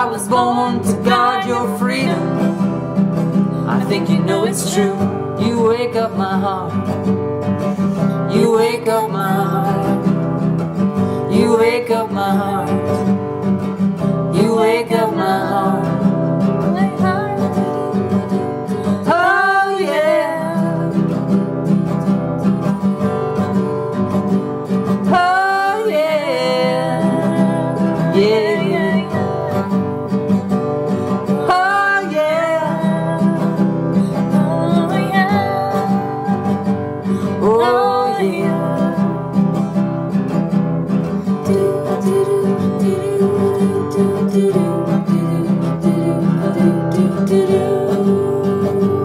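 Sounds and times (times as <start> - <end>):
strummed acoustic guitar: 0.0 - 49.0.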